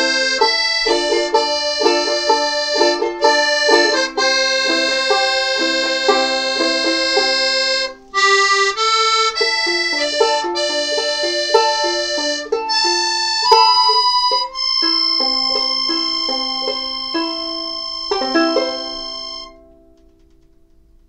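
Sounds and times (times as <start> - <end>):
accordion chords and melody: 0.0 - 20.2
banjolele strumming: 0.0 - 21.0.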